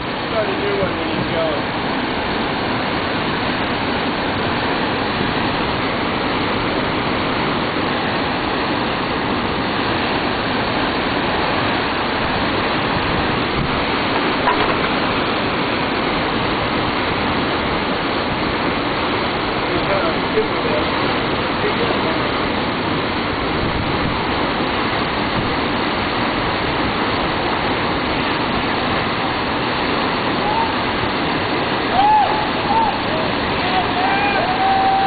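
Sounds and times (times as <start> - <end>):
whitewater rapid rushing: 0.0 - 35.0.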